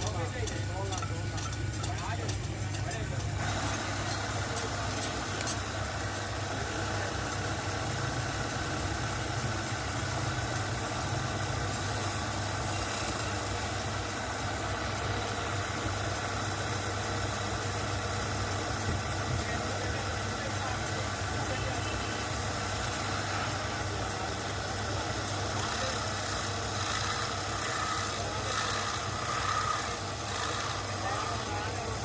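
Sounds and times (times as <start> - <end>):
motor humming: 0.0 - 32.0.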